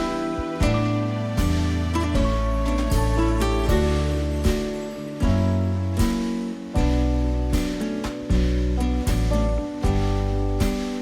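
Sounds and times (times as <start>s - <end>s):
deep bass: 0.0s - 11.0s.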